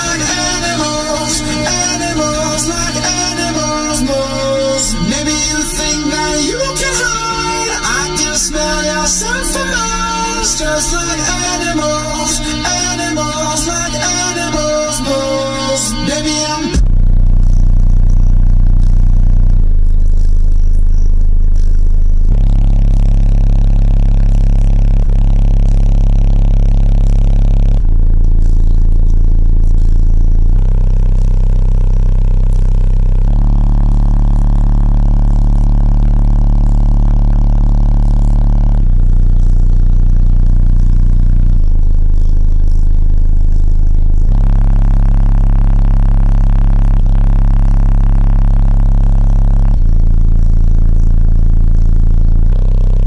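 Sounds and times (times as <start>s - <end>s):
deep bass notes from subwoofers: 0.0s - 53.0s.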